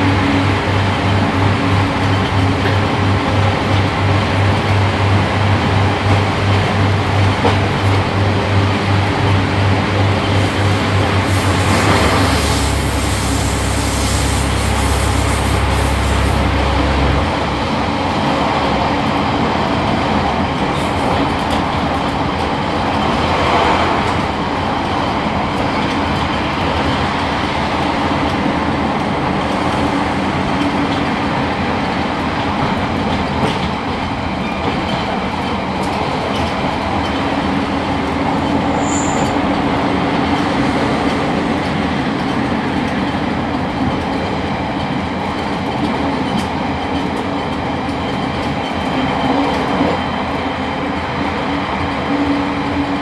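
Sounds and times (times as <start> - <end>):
train cabin rumble: 0.0 - 53.0.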